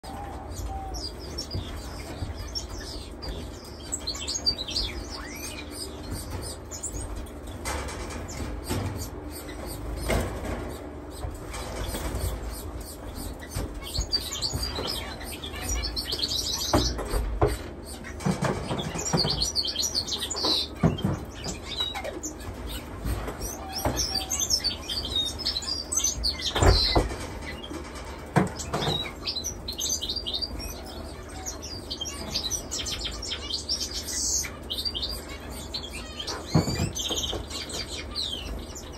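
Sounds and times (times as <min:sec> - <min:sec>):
finches chirping: 0:00.0 - 0:07.2, 0:08.2 - 0:27.8, 0:28.5 - 0:38.9.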